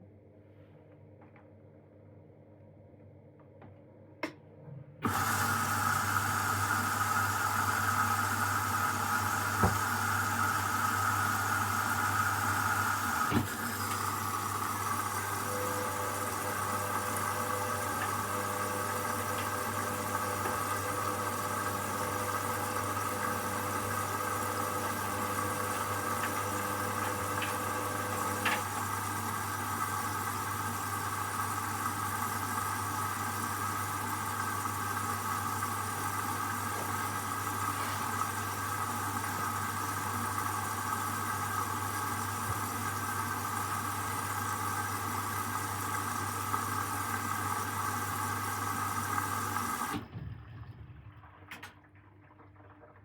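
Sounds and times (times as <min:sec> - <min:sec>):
washing machine hum: 0:04.2 - 0:53.0
water rushing in washing machine: 0:05.0 - 0:53.0.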